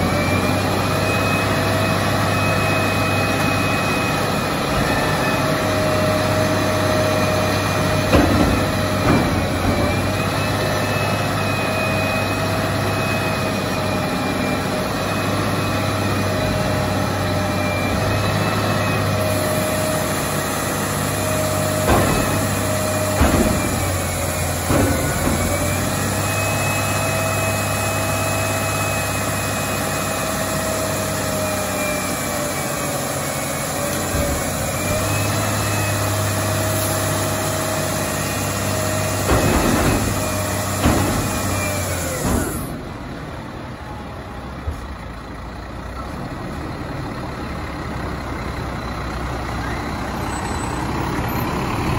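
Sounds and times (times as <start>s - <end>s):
garbage truck diesel engine whine: 0.0s - 51.9s.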